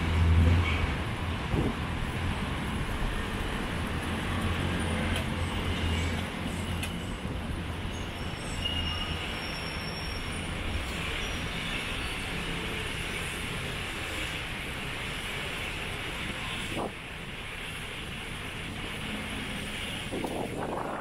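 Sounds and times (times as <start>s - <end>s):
street traffic hum: 0.0s - 21.0s.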